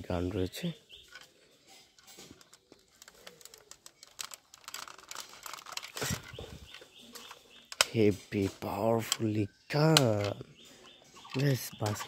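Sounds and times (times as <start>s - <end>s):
plastic toy rifle clicks and rattles: 1.0s - 10.4s, 11.2s - 12.0s.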